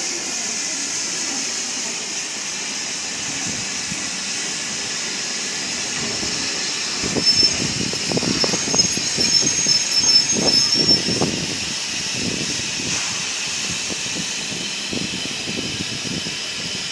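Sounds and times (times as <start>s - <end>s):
hiss of escaping steam: 0.0s - 16.9s
steam locomotive moving slowly: 0.0s - 16.9s.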